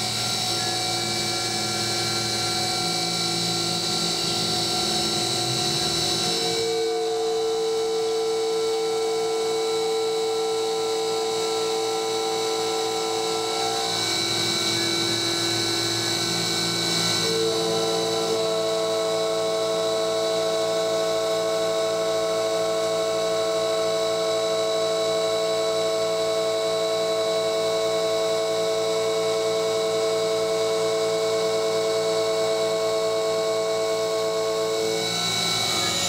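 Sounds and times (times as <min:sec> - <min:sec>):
mill spindle motor whining: 0:00.0 - 0:36.0.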